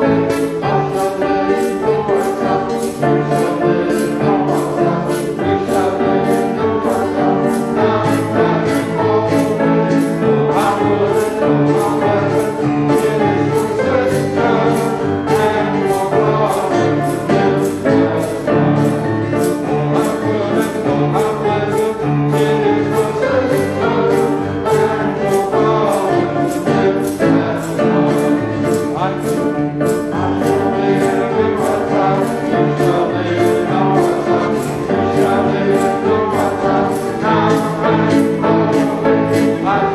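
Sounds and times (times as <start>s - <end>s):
choir singing: 0.0s - 39.9s
instrumental accompaniment: 0.0s - 39.9s.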